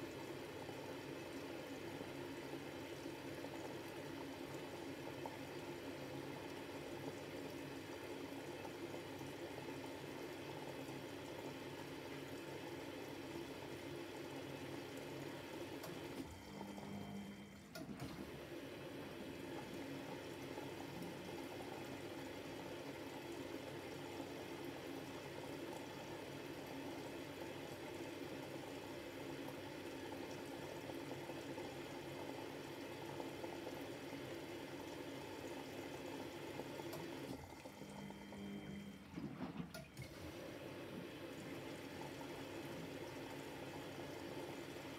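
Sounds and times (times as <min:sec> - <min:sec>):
washing machine water rushing: 0:00.0 - 0:44.9.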